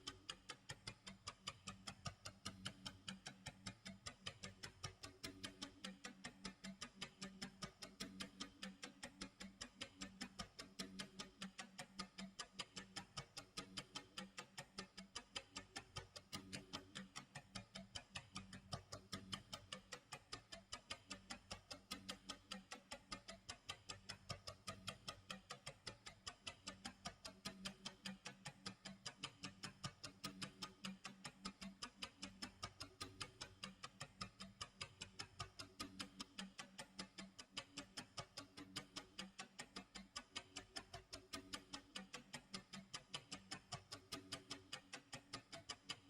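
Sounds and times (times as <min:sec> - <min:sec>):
clock ticking: 0:00.0 - 0:46.0.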